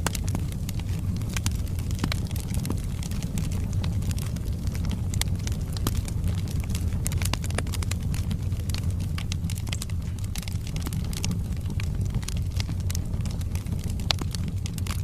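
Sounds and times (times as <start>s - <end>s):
fire flames rumbling: 0.0s - 15.0s
logs popping and crackling: 0.0s - 15.0s.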